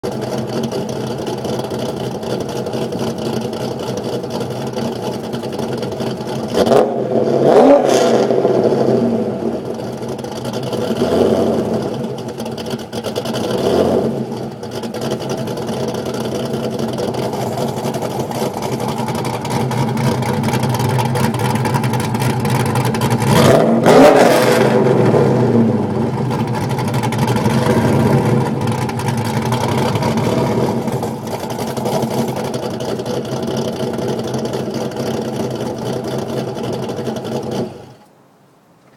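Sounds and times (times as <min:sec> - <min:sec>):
car engine idling and revving: 0:00.0 - 0:38.1.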